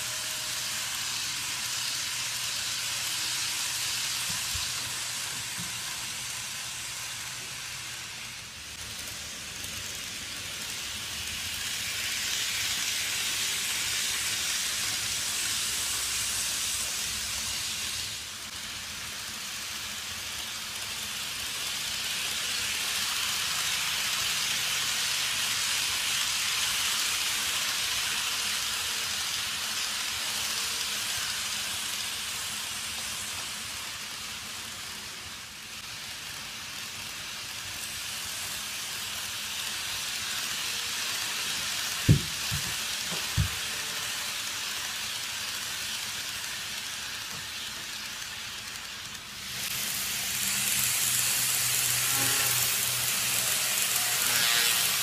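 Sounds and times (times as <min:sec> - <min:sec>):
model trains running on track: 0:00.0 - 0:55.0.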